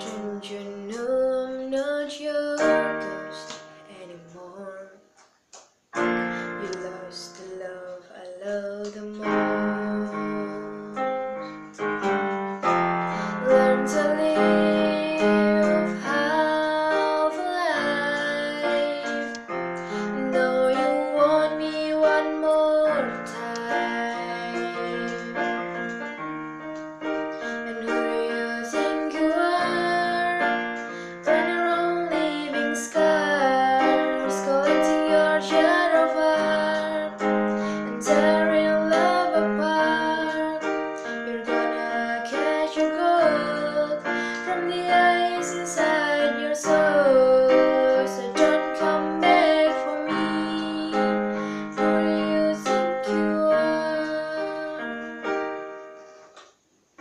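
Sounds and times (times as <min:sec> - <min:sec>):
woman singing pop ballad: 0:00.0 - 0:05.0, 0:06.3 - 0:11.1, 0:13.1 - 0:25.6, 0:27.3 - 0:55.3
electronic keyboard piano chords: 0:00.0 - 0:57.0.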